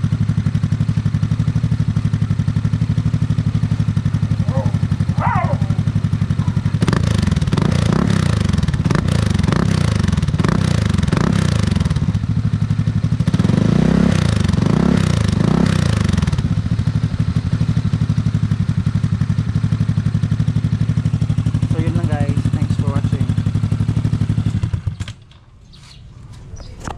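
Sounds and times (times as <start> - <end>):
scooter engine idling and revving: 0.0 - 26.9.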